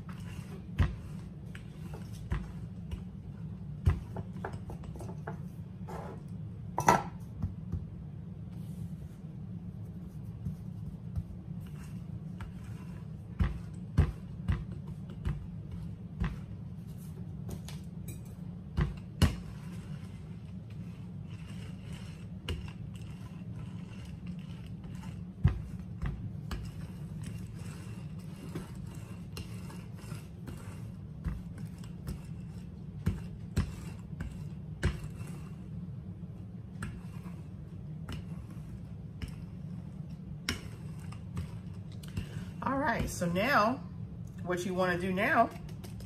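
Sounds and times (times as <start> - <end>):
rolling pin on dough: 0.0 - 43.9
steady low hum: 0.0 - 46.0.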